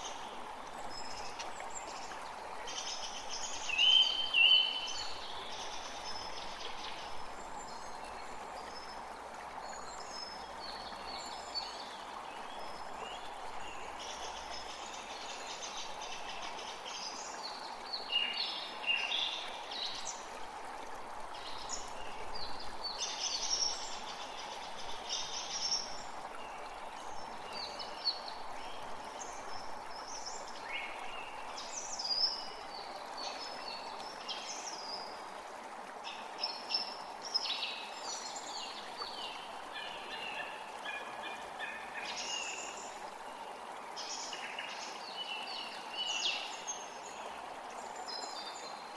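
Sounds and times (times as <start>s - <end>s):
creek water running: 0.0s - 48.9s
songbirds chirping: 0.0s - 48.9s.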